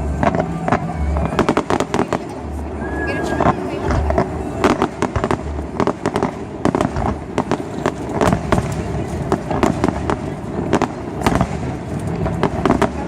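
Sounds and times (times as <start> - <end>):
fireworks bursting: 0.0 - 13.0
low rumble: 0.0 - 13.0.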